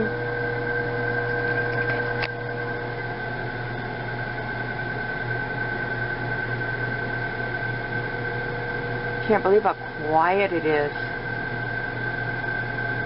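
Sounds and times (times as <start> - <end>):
microwave oven hum and fan: 0.0 - 13.0.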